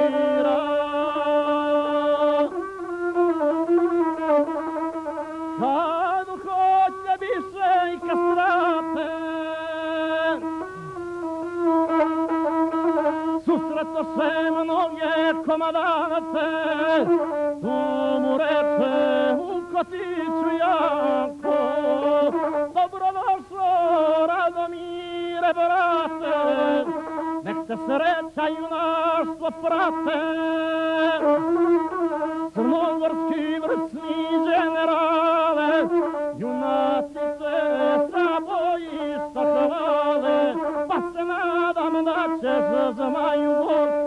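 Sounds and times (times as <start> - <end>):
bowed fiddle melody with trills: 0.0 - 44.0.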